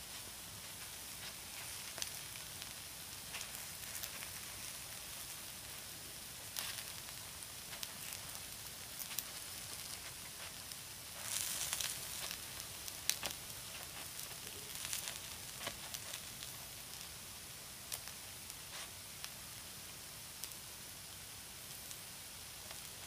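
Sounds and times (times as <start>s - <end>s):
batter sizzling: 0.0s - 23.0s.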